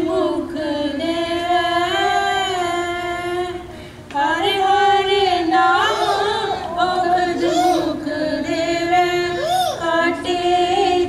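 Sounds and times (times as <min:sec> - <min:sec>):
woman singing a hymn: 0:00.0 - 0:11.0.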